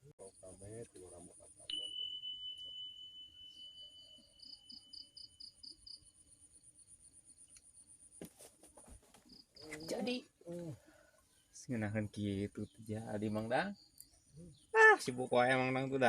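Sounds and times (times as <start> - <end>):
insects trilling and chirping: 0.1 - 16.0.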